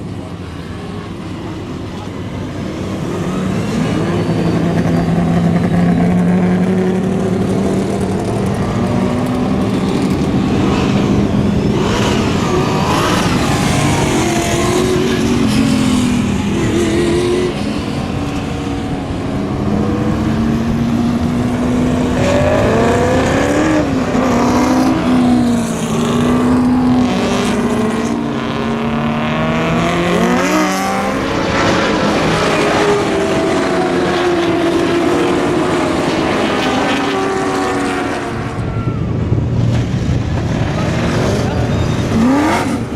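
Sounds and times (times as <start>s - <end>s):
race car engines passing: 0.0s - 42.9s.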